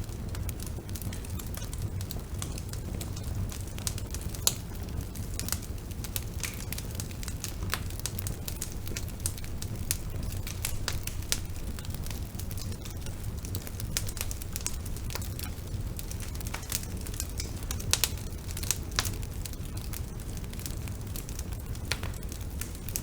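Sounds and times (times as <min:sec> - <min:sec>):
burning wood crackling and popping: 0:00.0 - 0:23.0
low rumble of bonfire: 0:00.0 - 0:23.0.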